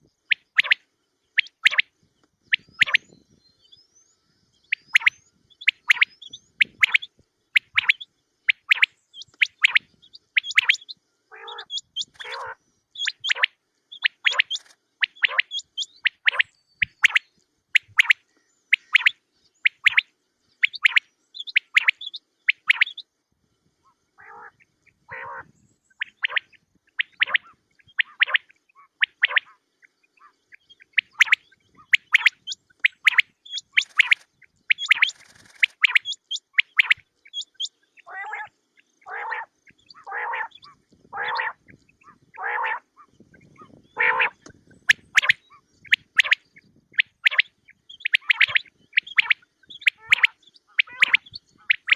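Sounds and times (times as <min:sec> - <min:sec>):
high quail chirps: 0:00.0 - 0:23.1, 0:23.8 - 0:51.9.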